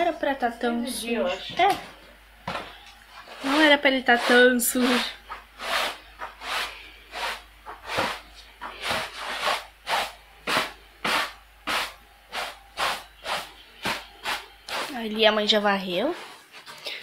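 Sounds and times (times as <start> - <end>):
broom sweeping a rug: 2.5 - 16.8.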